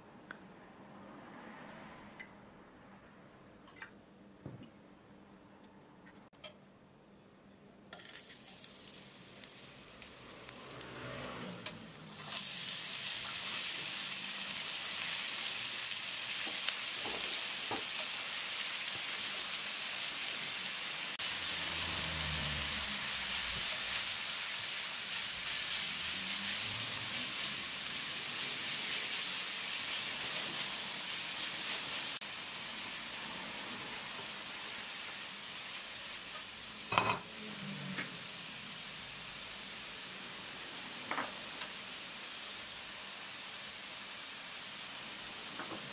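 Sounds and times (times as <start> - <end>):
leeks sizzling in frying pan: 8.0 - 11.0, 11.6 - 45.9.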